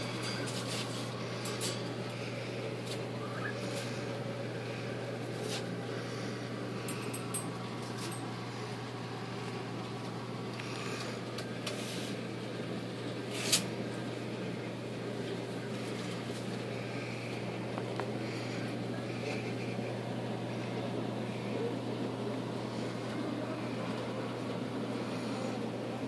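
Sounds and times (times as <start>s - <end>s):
aquarium pumps humming: 0.0s - 26.0s.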